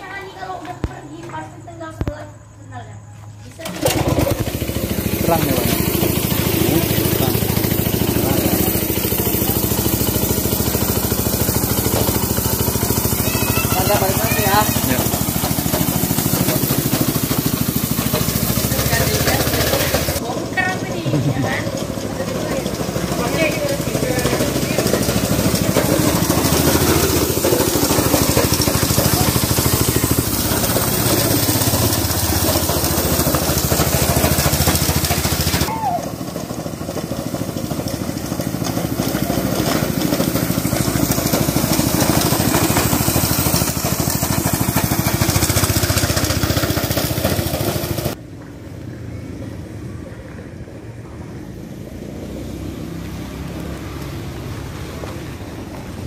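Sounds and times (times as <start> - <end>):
small motorcycle engine droning: 0.0 - 56.0.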